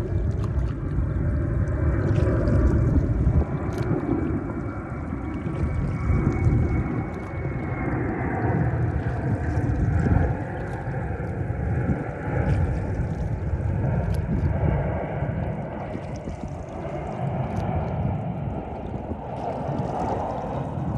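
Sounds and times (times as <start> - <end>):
water rushing along boat hull: 0.0 - 20.9
wind buffeting microphone: 0.0 - 20.9.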